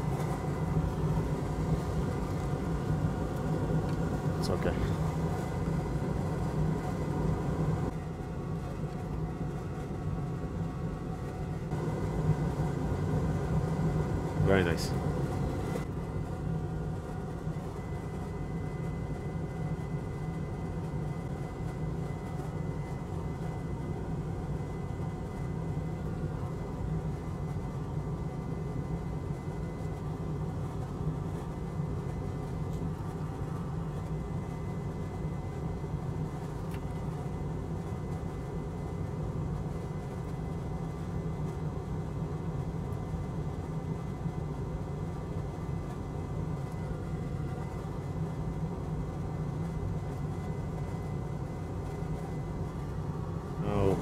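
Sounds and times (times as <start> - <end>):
faint high whine: 0.0 - 54.0
low machine hum: 0.0 - 54.0.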